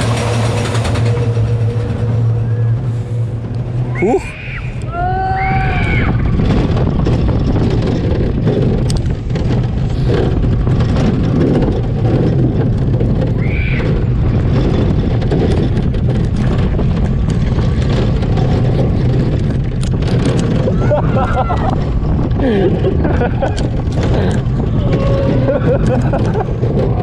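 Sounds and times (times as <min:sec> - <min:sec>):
roller coaster wheels rumbling: 0:00.0 - 0:27.0.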